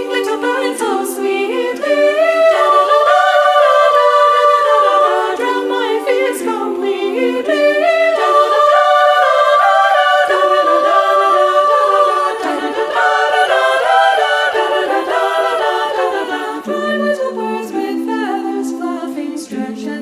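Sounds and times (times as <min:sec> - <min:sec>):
women's choir singing a cappella: 0:00.0 - 0:20.0.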